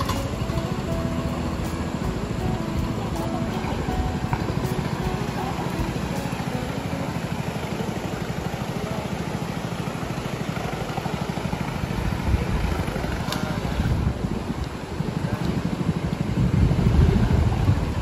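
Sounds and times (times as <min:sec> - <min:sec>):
outboard engine running: 0:00.0 - 0:18.0.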